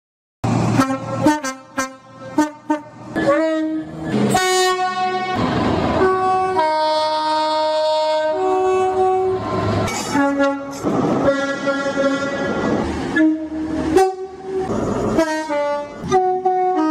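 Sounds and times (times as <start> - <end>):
two-tone train air horn: 0.7 - 16.9.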